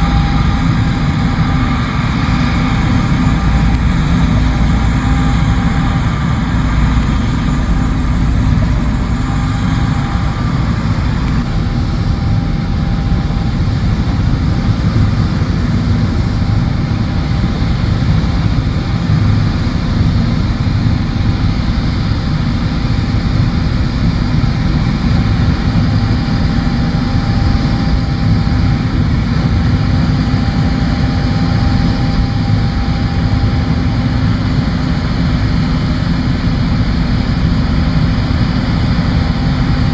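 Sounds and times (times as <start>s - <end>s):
combine harvester drone: 0.0s - 39.9s
faint steady whine: 0.0s - 39.9s.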